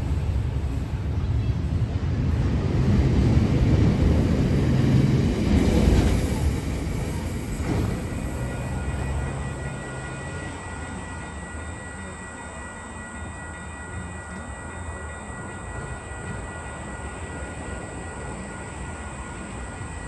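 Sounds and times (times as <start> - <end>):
train passing rumble: 0.0 - 20.0.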